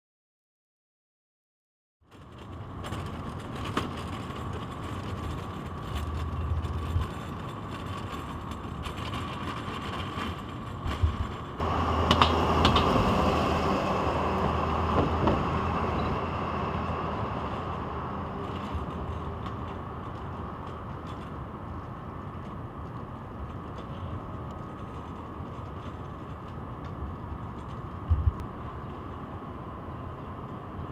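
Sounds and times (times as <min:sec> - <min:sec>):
vehicle and street hum: 0:02.1 - 0:30.9.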